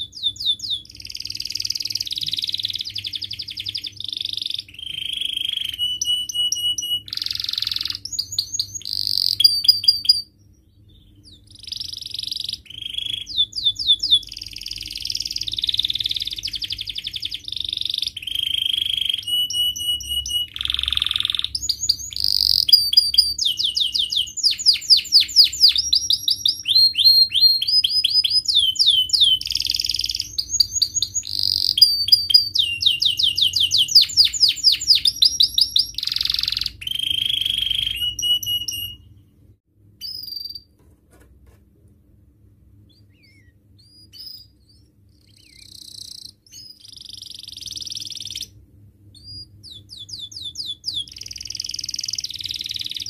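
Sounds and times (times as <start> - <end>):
canary singing: 0.0 - 40.8, 42.8 - 53.0.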